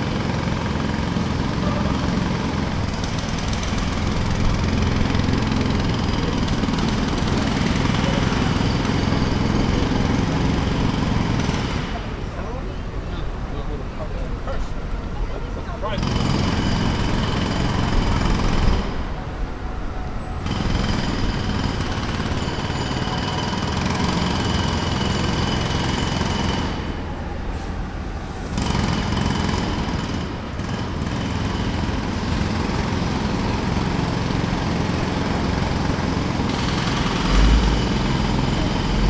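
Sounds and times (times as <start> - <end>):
jackhammer rattling: 0.0 - 12.6, 16.0 - 19.2, 20.4 - 27.0, 28.6 - 39.0.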